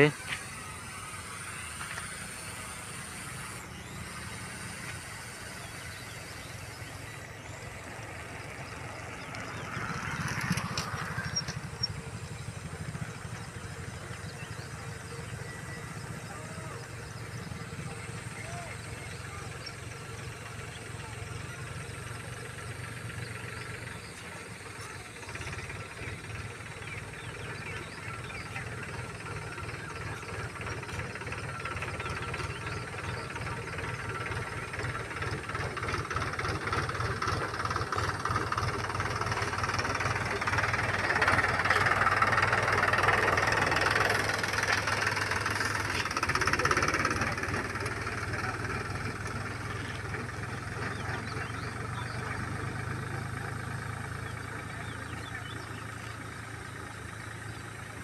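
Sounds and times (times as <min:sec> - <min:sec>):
vehicle engine passing by: 0:00.0 - 0:56.4.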